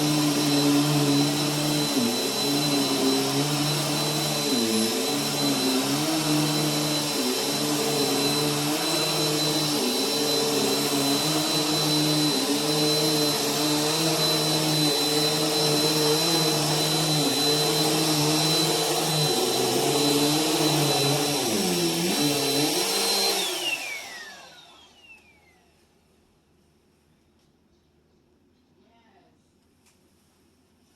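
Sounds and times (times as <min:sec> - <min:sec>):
vacuum cleaner running on carpet: 0:00.0 - 0:25.7.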